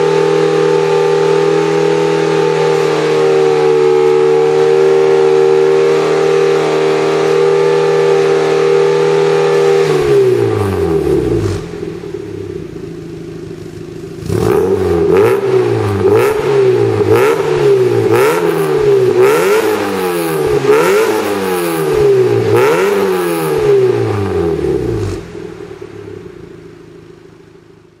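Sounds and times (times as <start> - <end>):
car engine revving: 0.0 - 27.8
car engine idling: 0.0 - 28.0.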